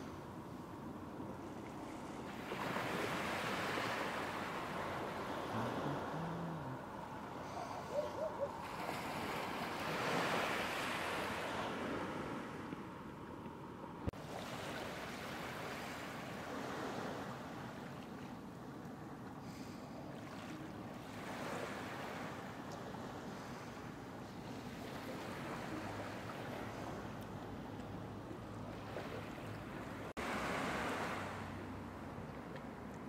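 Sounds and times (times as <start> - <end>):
small waves lapping on shore: 0.0 - 13.1, 14.1 - 33.0.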